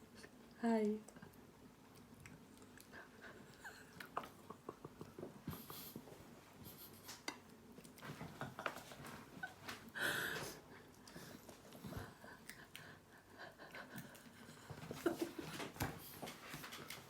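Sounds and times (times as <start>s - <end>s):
person chewing softly: 0.1s - 17.0s.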